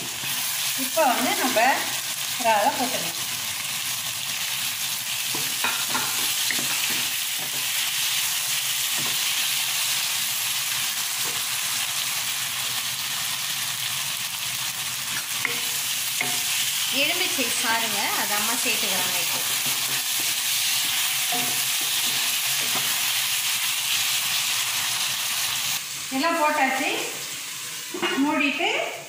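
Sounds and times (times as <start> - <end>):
food sizzling in a pot: 0.0 - 29.0.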